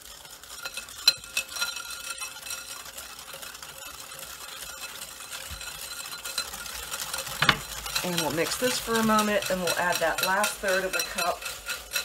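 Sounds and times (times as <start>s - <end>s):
whisk scraping glass bowl: 0.0s - 12.0s.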